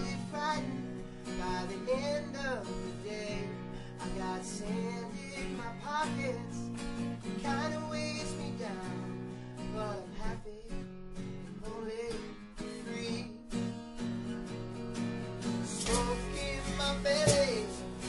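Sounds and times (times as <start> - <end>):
band playing acoustic guitars: 0.0 - 18.0.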